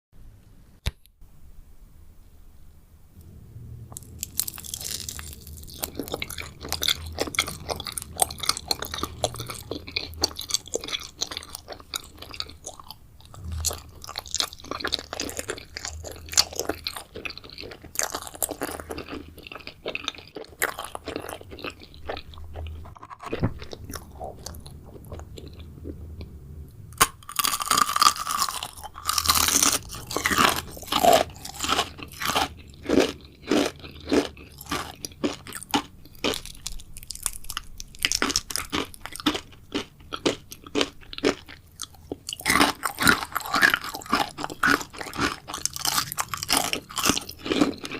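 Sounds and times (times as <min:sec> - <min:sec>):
chewing and crunching jelly candy: 0:03.9 - 0:47.9.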